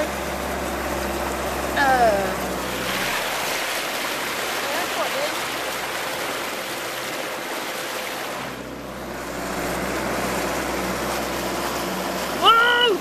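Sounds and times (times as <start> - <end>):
diesel engine running: 0.0 - 13.0
flood water rushing against car: 0.0 - 13.0.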